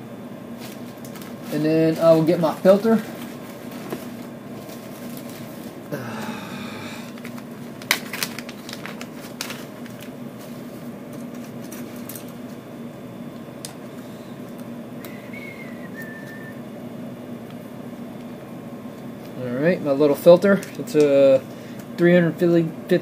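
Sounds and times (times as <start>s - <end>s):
equipment humming: 0.0s - 23.0s.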